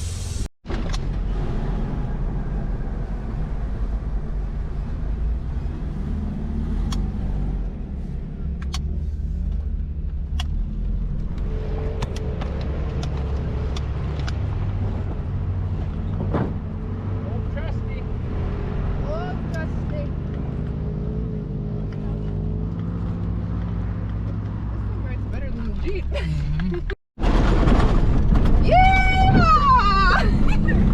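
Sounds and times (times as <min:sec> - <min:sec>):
vehicle engine and road rumble: 0:00.0 - 0:30.9.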